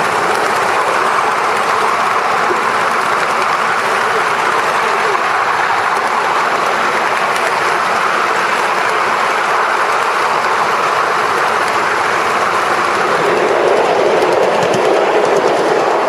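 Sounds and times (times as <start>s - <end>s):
miniature train running on track: 0.0s - 16.0s.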